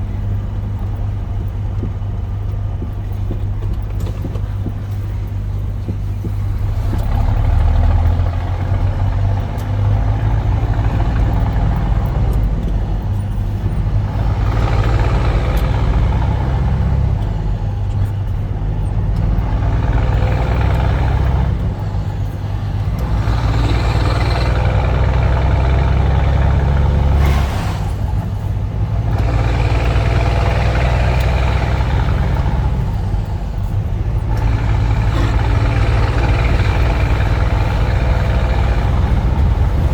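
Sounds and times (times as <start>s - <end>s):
diesel truck engine droning: 0.0s - 39.9s
road noise: 0.0s - 39.9s.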